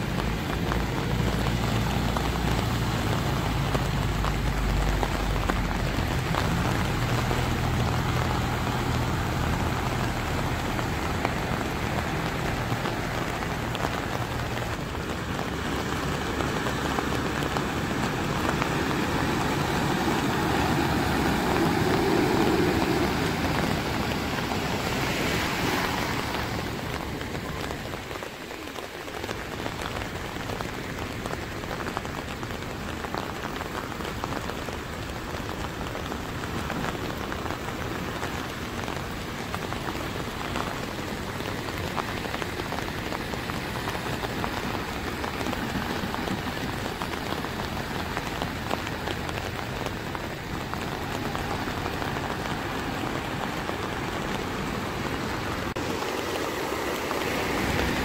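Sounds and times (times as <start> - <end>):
heavy rain on flooded road: 0.0 - 58.0
vehicle splashing through water: 0.0 - 58.0.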